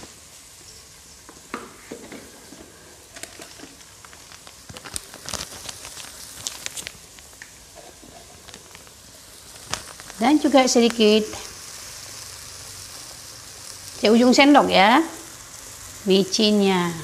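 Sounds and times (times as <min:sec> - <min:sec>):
spice paste sizzling in oil: 0:00.0 - 0:17.0
oil popping and crackling: 0:01.2 - 0:17.0.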